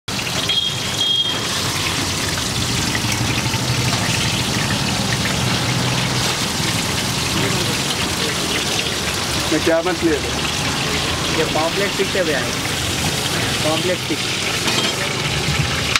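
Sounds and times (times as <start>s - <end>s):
hot oil sizzling in a frying pan: 0.1s - 15.9s.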